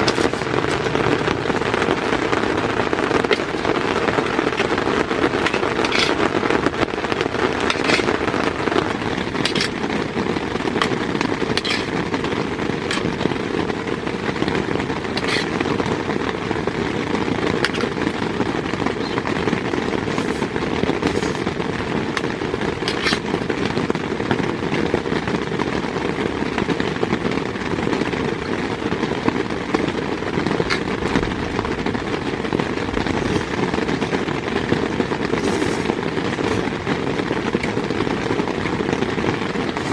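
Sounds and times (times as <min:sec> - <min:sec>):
heavy rain on tent fabric: 0:00.0 - 0:39.9.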